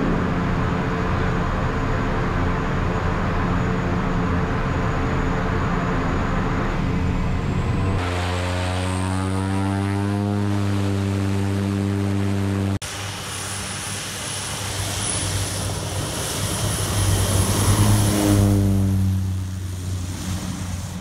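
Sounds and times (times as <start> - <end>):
high turbine whine: 0.0 - 21.0
turboprop engine running: 0.0 - 21.0.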